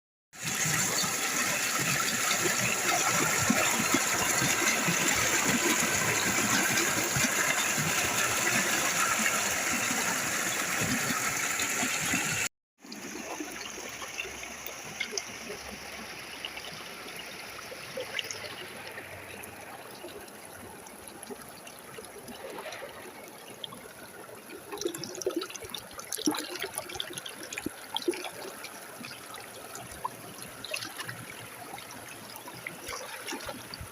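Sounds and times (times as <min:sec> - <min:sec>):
water rushing: 0:00.4 - 0:21.3, 0:22.0 - 0:33.9
water splashes: 0:00.4 - 0:33.9
water trickling: 0:00.4 - 0:33.9.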